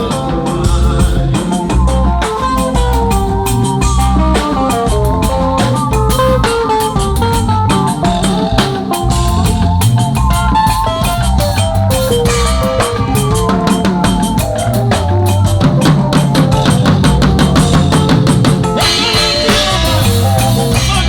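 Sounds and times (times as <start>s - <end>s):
bass: 0.0s - 21.0s
melody line: 0.0s - 21.0s
rapid drum fills: 0.0s - 21.0s.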